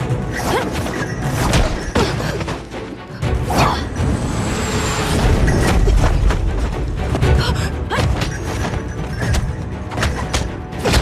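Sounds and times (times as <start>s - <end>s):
dramatic soundtrack music: 0.0s - 11.0s.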